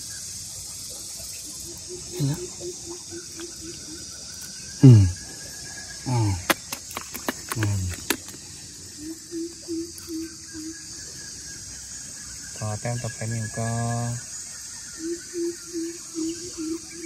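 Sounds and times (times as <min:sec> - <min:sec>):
crickets and insects chirping: 0:00.0 - 0:17.0
pulsing insect call: 0:00.0 - 0:17.0.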